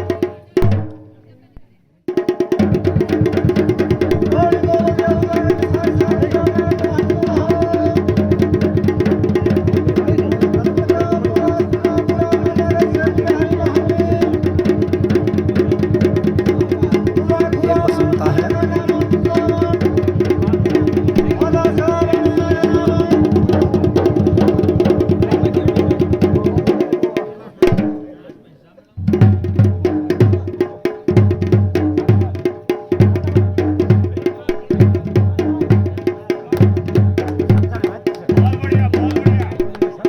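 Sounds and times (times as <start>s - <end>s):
drums playing fast rhythm: 0.0s - 1.4s, 2.1s - 28.3s, 29.0s - 40.0s.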